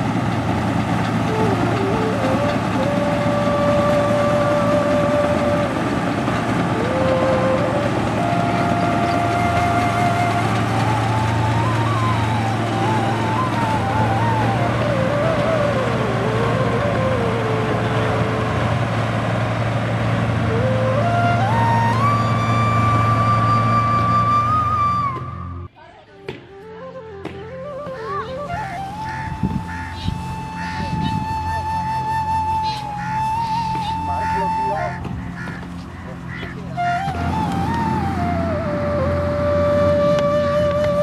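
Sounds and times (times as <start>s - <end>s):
wavering melody line: 0.0s - 25.7s, 26.5s - 41.0s
combine harvester engine and threshing: 0.0s - 25.8s, 26.5s - 41.0s.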